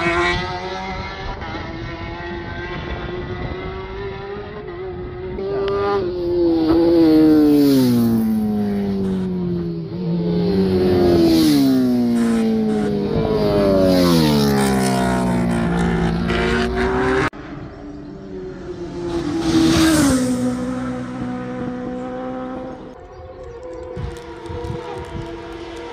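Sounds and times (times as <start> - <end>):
racing motorcycles passing: 0.0 - 25.9.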